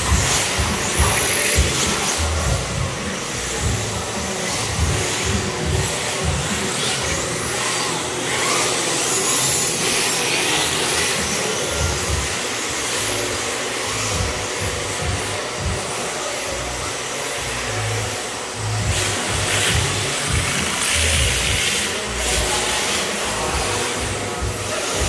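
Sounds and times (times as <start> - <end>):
rc cars mechanical whir: 0.0 - 25.0.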